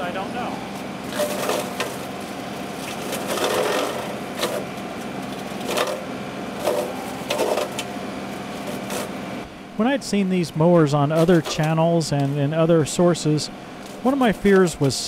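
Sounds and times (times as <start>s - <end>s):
tractor and mower humming: 0.0s - 15.0s.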